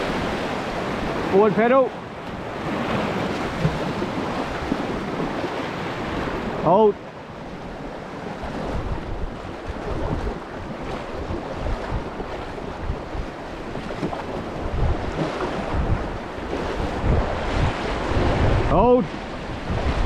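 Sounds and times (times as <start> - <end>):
river water rushing and splashing: 0.0 - 20.0
wind buffeting microphone: 0.0 - 20.0.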